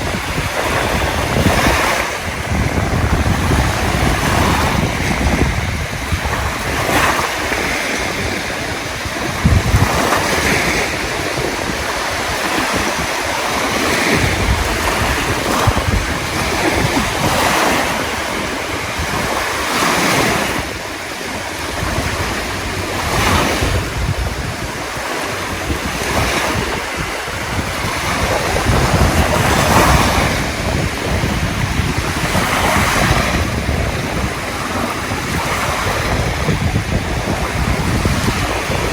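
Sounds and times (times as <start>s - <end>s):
waves washing in: 0.0s - 38.9s
wind rumbling on microphone: 0.0s - 38.9s.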